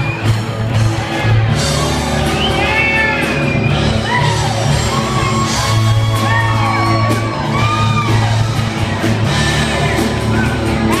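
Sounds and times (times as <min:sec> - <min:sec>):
loud music with deep bass: 0:00.0 - 0:11.0.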